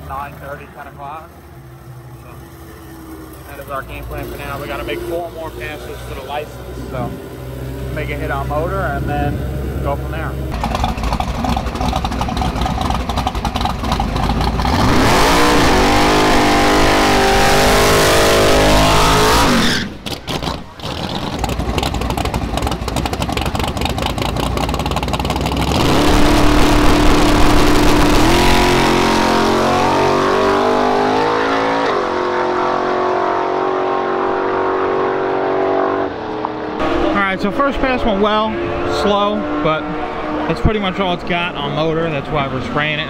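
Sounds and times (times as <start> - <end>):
drag car engine revving: 0.0 - 43.0.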